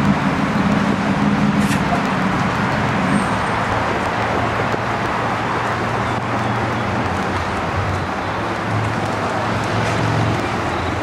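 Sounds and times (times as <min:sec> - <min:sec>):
low engine hum: 0:00.0 - 0:11.0
road traffic noise: 0:00.0 - 0:11.0.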